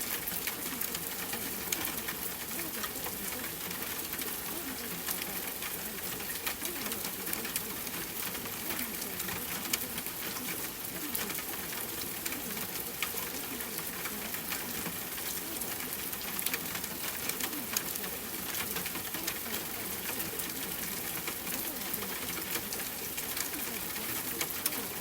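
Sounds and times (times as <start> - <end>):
rain hiss with crackles: 0.0 - 25.0.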